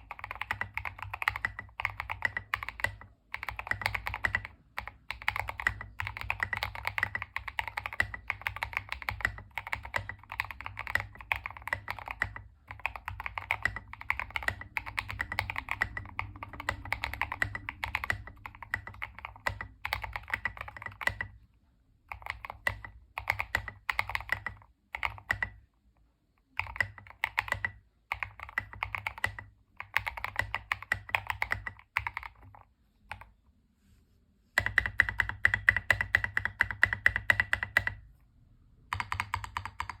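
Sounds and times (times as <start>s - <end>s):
mechanical keyboard typing: 0.0s - 21.4s, 22.0s - 25.7s, 26.4s - 33.3s, 34.6s - 38.1s, 38.9s - 40.0s.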